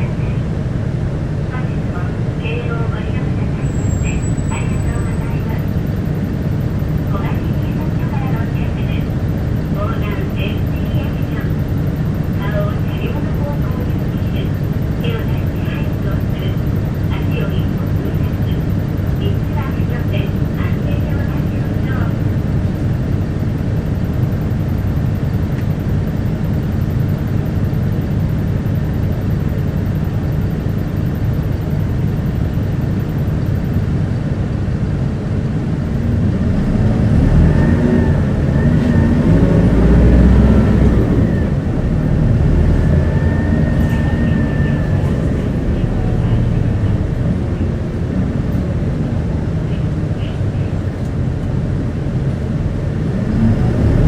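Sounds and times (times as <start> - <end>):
bus diesel engine: 0.0 - 54.0
road rumble: 0.0 - 54.0
faint high whine: 1.5 - 50.9.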